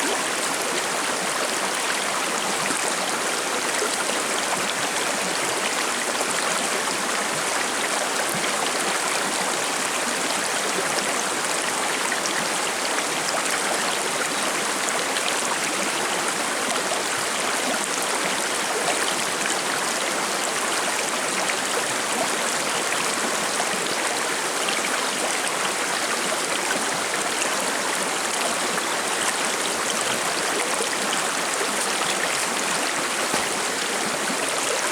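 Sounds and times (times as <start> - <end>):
river water babbling over stones: 0.0 - 34.9.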